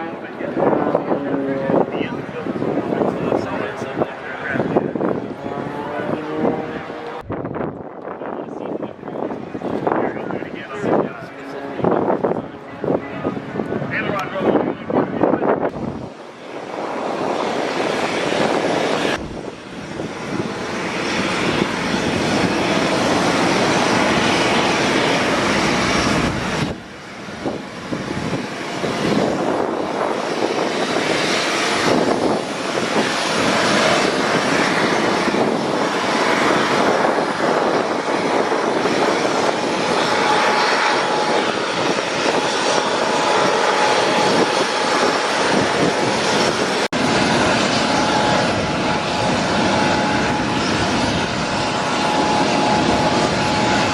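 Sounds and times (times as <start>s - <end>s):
aircraft engine noise: 0.0s - 53.9s.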